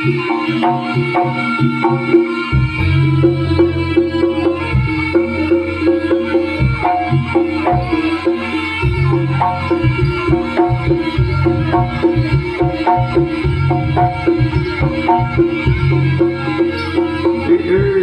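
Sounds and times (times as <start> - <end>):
gamelan-style percussion ensemble: 0.0 - 18.0
heavy low drum beat: 0.0 - 18.0.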